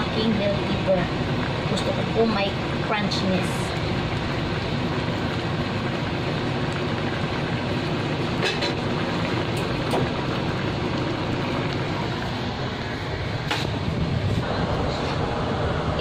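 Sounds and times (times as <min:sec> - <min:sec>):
range hood fan rushing: 0:00.0 - 0:16.0.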